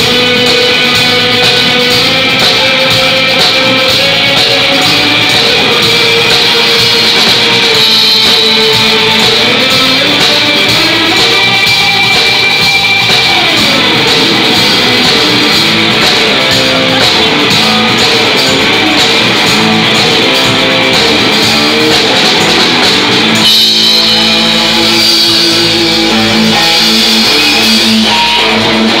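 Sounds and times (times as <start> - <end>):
drums: 0.0 - 29.0
electric guitar: 0.0 - 29.0.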